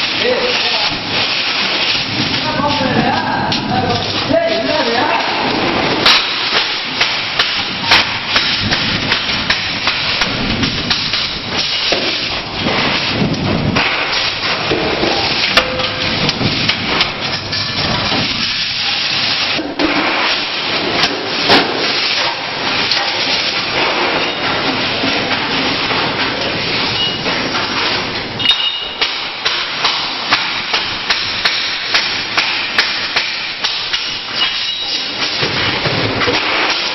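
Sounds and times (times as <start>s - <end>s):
sharp welding cracks: 0.0s - 24.2s, 28.9s - 36.9s.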